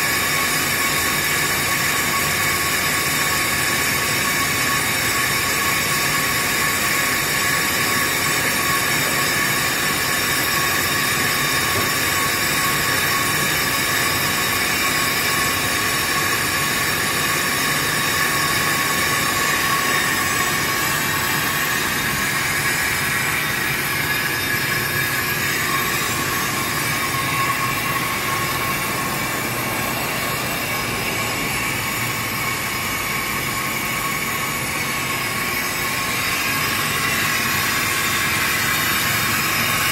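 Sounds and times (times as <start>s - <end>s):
brake lathe whining: 0.1s - 39.9s.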